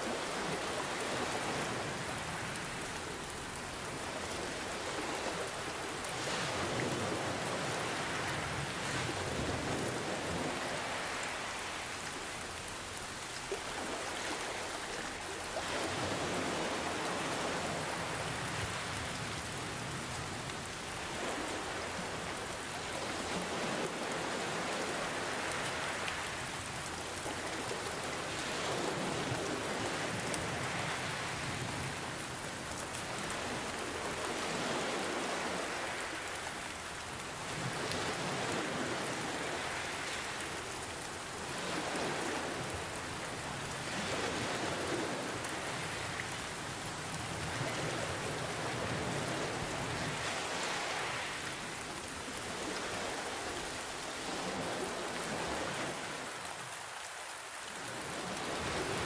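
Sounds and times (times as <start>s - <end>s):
ocean waves: 0.0s - 59.0s
rain hiss: 0.0s - 59.0s.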